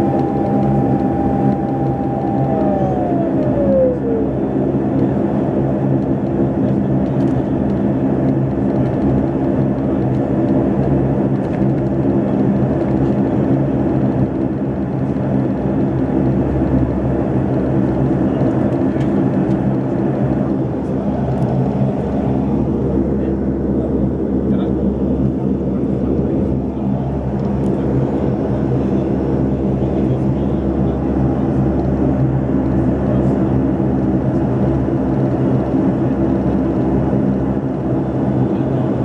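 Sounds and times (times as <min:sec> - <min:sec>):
jet engines humming in cabin: 0:00.0 - 0:39.0
plane rolling rumble: 0:00.0 - 0:39.0.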